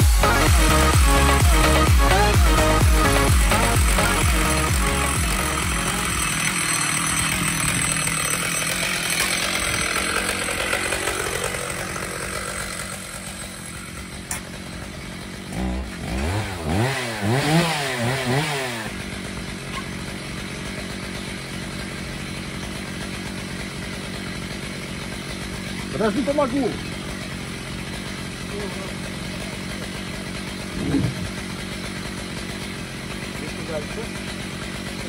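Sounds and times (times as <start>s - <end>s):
chainsaw revving and idling: 0.0s - 35.0s.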